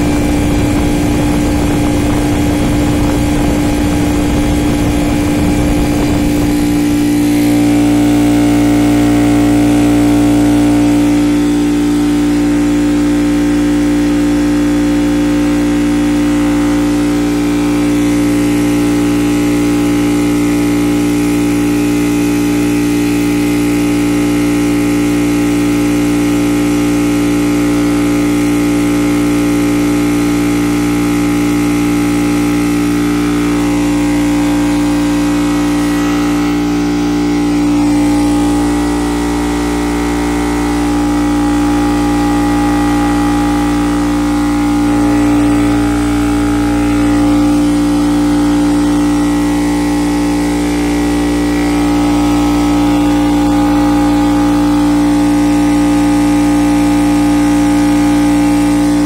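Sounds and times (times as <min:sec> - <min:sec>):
air compressor humming: 0:00.0 - 0:59.0.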